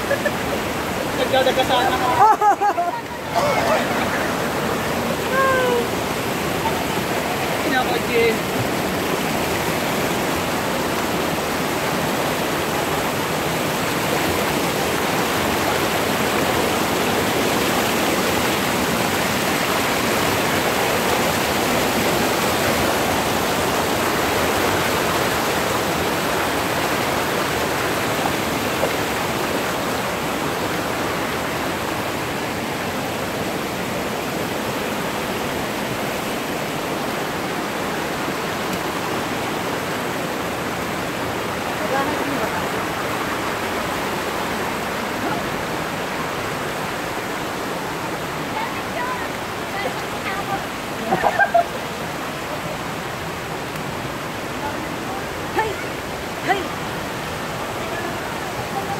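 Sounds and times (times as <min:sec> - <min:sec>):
water rushing over boulders: 0:00.0 - 0:58.9.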